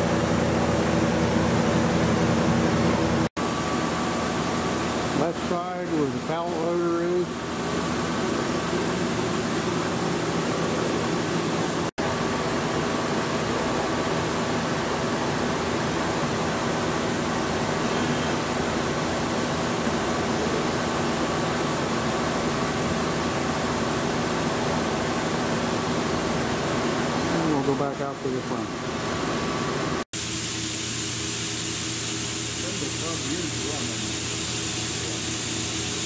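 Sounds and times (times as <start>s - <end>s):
machinery hum and hiss: 0.0s - 36.0s.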